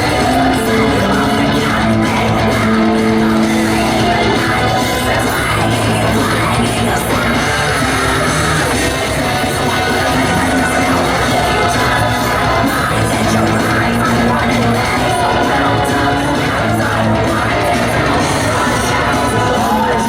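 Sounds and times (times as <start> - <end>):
person singing: 0.0 - 20.0
rock music with electric guitar: 0.0 - 20.0.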